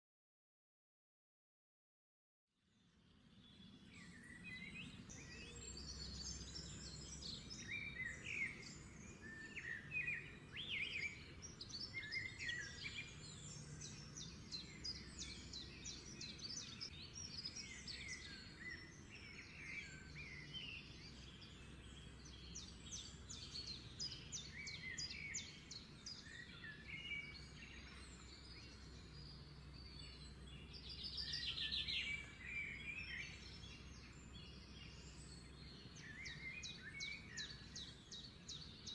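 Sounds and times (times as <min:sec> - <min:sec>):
songbirds chirping: 0:02.6 - 0:38.9.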